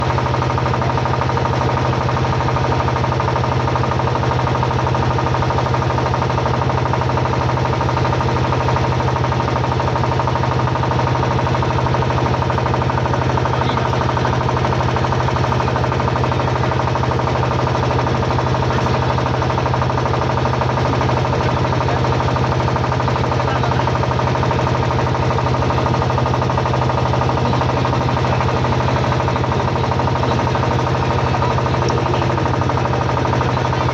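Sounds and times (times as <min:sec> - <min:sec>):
motorboat engine running: 0:00.0 - 0:33.9.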